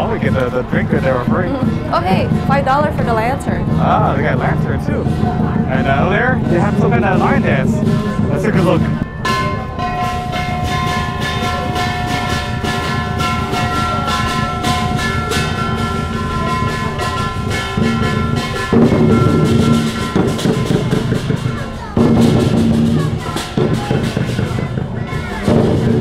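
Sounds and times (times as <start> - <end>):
large drum rolls: 0.0 - 26.0
crashing ringing cymbals: 4.9 - 26.0.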